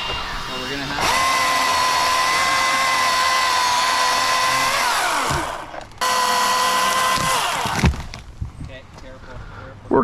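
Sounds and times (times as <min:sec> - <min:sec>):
electric chainsaw whining: 0:00.0 - 0:08.2.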